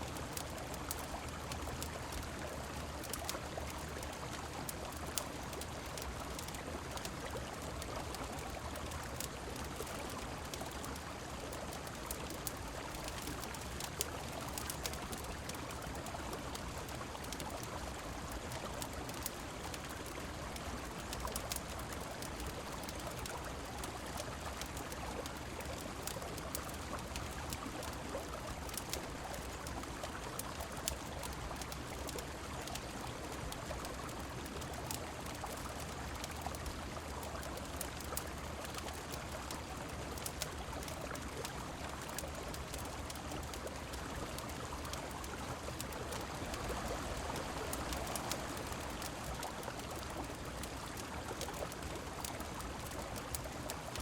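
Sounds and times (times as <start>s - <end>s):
rainfall: 0.0s - 54.0s
wood fire crackling: 0.1s - 54.0s.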